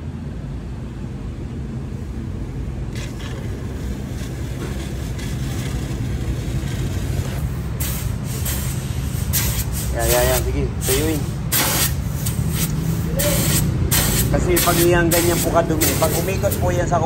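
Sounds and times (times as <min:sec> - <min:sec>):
low machine hum: 0:00.0 - 0:17.0
sputtering hiss of air: 0:03.0 - 0:17.0.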